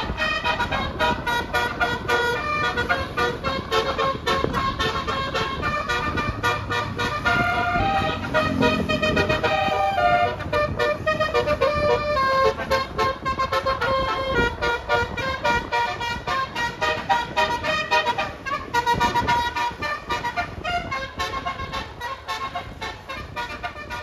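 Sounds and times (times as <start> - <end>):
bus horn playing pulsed tune: 0.0 - 24.0.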